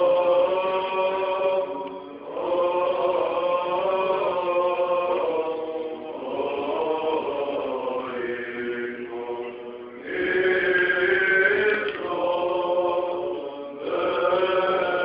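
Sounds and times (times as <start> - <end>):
men singing chant: 0.0 - 15.0.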